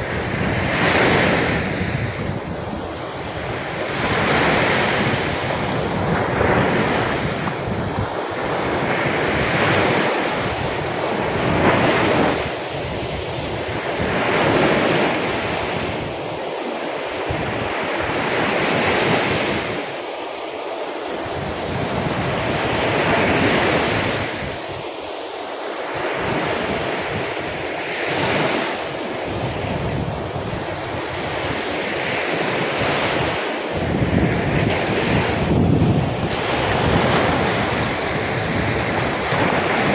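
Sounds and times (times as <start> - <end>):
wind buffeting microphone: 0.0 - 16.5, 17.1 - 19.9, 21.1 - 24.9, 25.9 - 39.9
sea surf breaking on beach: 0.0 - 39.9.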